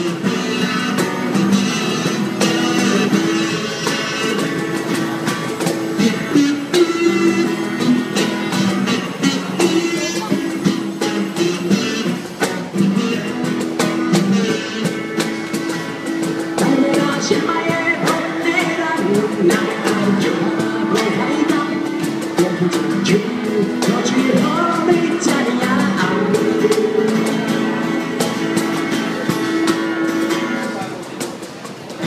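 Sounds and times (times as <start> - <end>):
acoustic guitar strumming: 0.0 - 32.0
cajon tapping a beat: 0.0 - 32.0.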